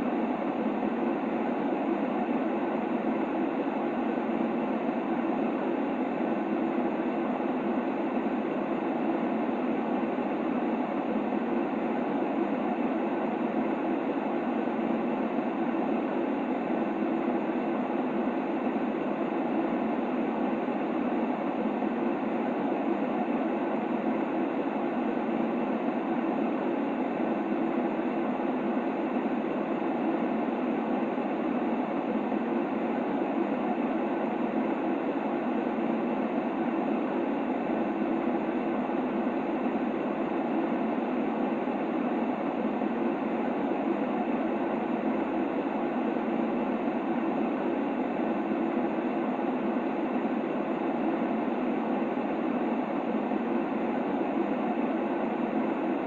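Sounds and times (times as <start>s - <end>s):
white noise: 0.0s - 56.0s.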